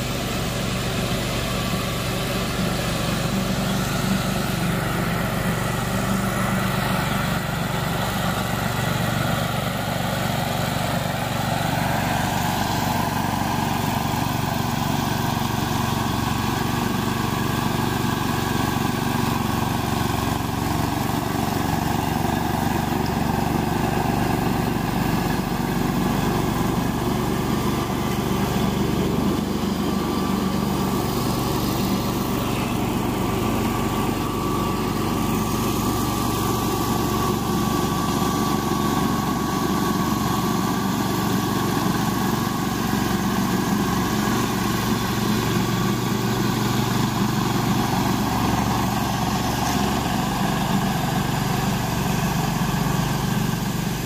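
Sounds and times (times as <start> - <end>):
mower engine running: 0.0 - 54.0.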